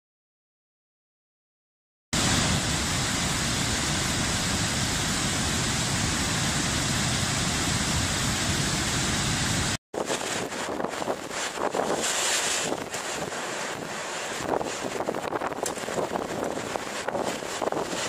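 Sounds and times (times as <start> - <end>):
rough surf: 2.2 - 18.0
wind gusting on microphone: 2.2 - 18.0.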